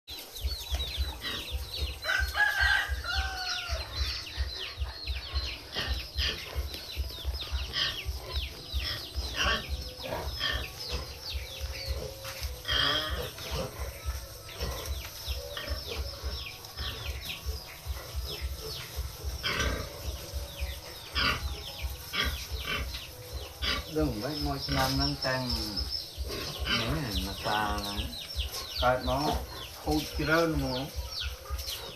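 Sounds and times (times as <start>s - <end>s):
pigs eating noisily: 0.1s - 31.9s
poultry peeping: 0.1s - 31.9s.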